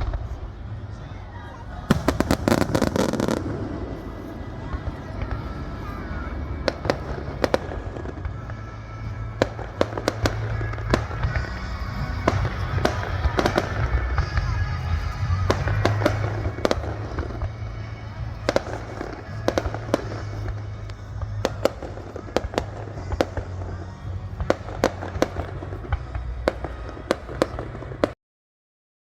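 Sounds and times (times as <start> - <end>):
low rumble: 0.0 - 28.1
fireworks bursting: 0.0 - 28.2.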